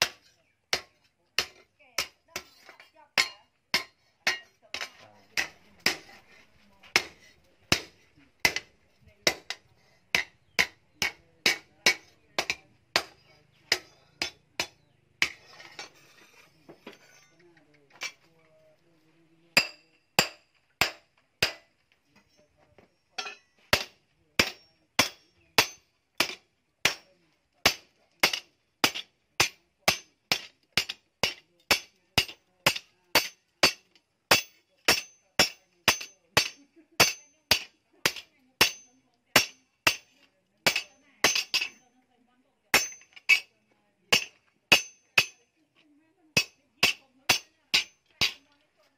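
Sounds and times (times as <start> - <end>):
hammer striking steel on anvil: 0.0 - 17.4, 19.6 - 21.7, 23.2 - 41.8, 42.7 - 43.5, 44.1 - 45.4, 46.4 - 48.4.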